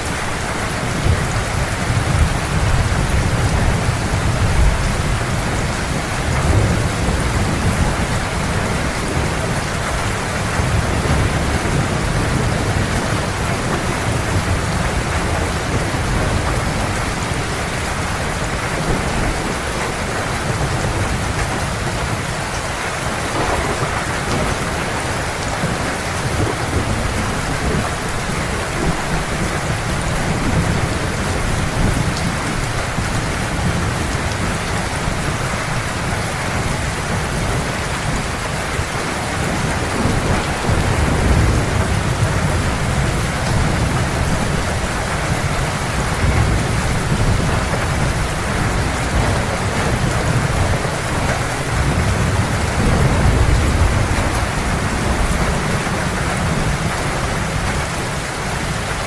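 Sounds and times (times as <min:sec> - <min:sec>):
heavy rain: 0:00.0 - 0:59.0
low rumble of thunder: 0:00.0 - 0:59.0.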